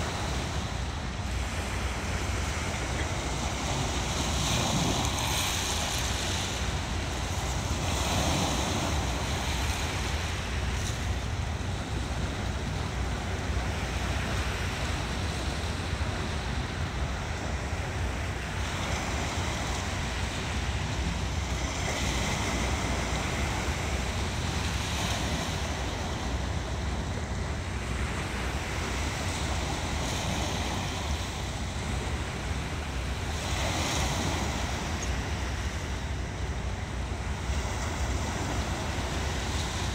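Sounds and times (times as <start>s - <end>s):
waves washing over rocks: 0.0s - 39.9s
wind rumble on microphone: 0.0s - 39.9s.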